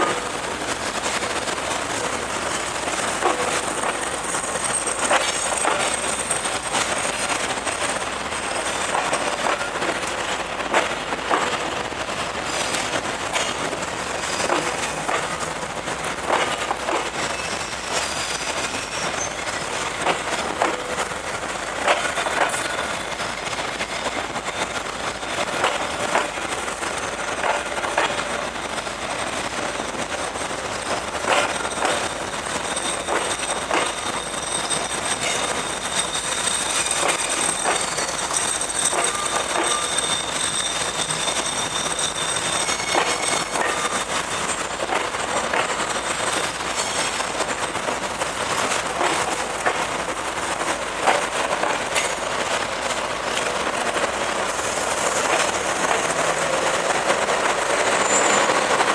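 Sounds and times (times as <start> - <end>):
train wagons rattling over rails: 0.0 - 58.9.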